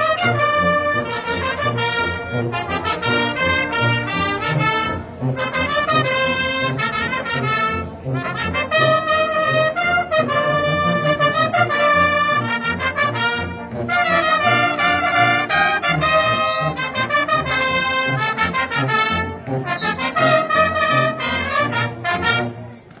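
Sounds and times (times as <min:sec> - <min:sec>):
military brass band playing: 0:00.0 - 0:23.0.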